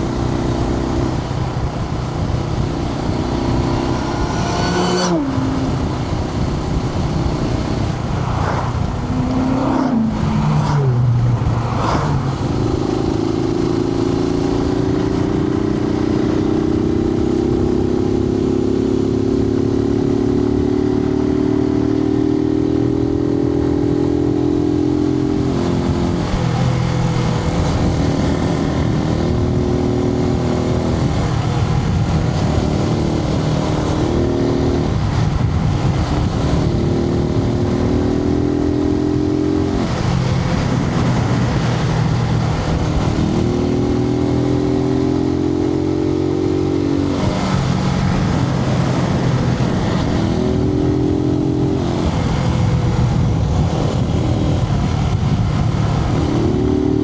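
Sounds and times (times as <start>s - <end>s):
wind rushing: 0.0s - 17.0s, 24.7s - 57.0s
motorcycle engine revving: 0.0s - 57.0s.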